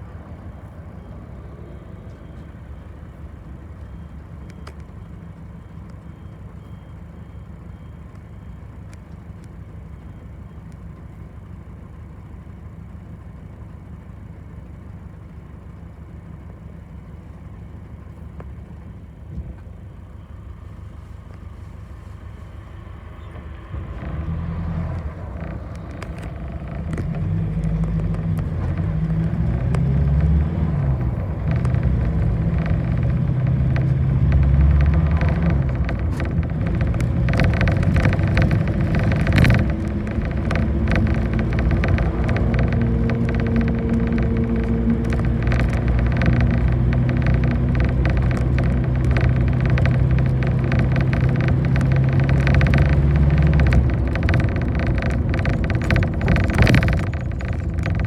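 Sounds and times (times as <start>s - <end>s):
bus engine accelerating: 0.0s - 58.0s.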